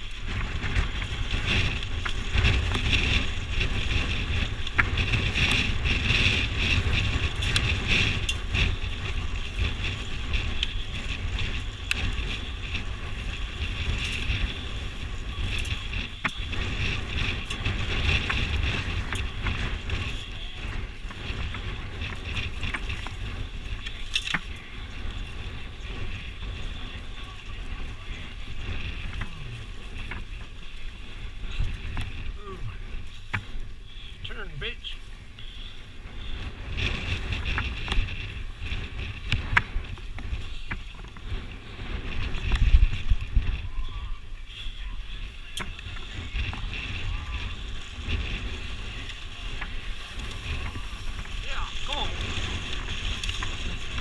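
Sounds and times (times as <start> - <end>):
dirt bike engine: 0.0 - 54.0
wind buffeting microphone: 0.0 - 54.0.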